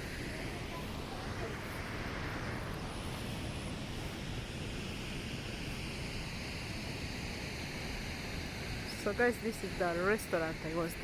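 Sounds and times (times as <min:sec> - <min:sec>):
steady rushing outdoor noise: 0:00.0 - 0:11.0.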